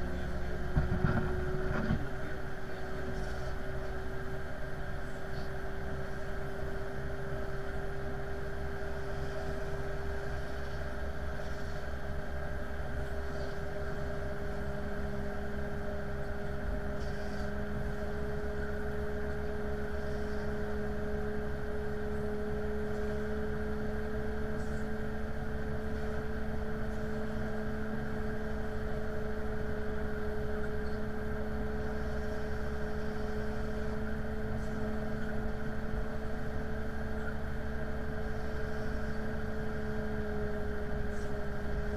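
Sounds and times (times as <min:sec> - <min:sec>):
jetliner engine drone: 0:00.0 - 0:41.9.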